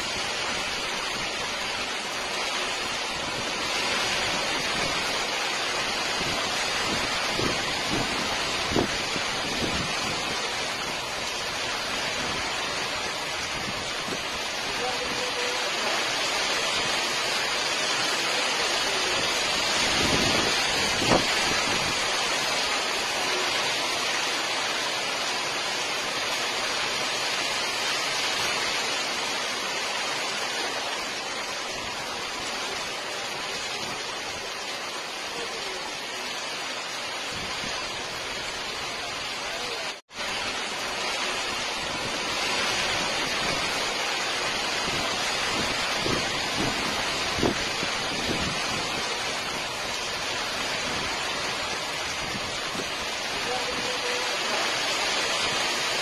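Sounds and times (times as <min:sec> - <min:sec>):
torrential rain pouring: 0:00.0 - 0:56.0.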